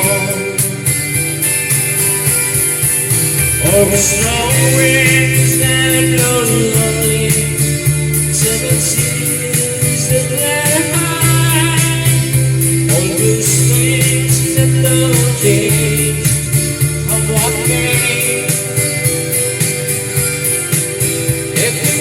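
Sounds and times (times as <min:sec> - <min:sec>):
folk-country song: 0:00.0 - 0:22.0.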